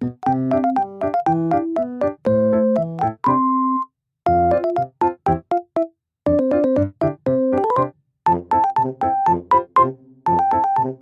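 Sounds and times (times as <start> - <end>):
bouncy keyboard tune: 0.0 - 11.0.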